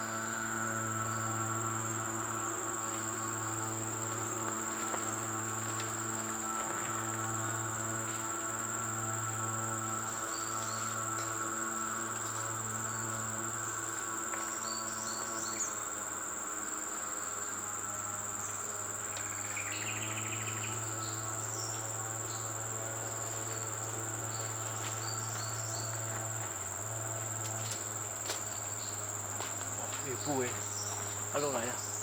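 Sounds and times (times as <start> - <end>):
insects droning: 0.0 - 32.0
low steady hum: 0.0 - 32.0.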